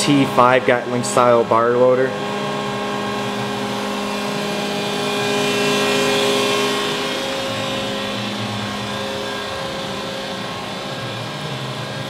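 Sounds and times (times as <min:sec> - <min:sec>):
shop machinery humming: 0:00.0 - 0:12.0.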